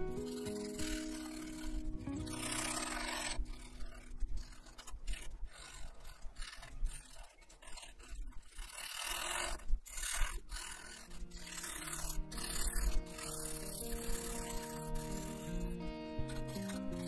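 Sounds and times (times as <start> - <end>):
marker scratching on paper: 0.0 - 17.0.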